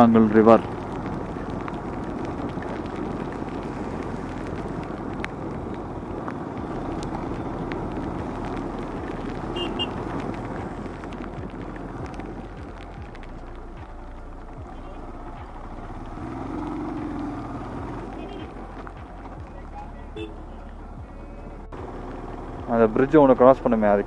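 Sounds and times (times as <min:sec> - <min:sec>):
wind noise: 0:00.0 - 0:19.6
motorcycle engine: 0:00.0 - 0:24.0
tyre noise on wet road: 0:00.0 - 0:24.0.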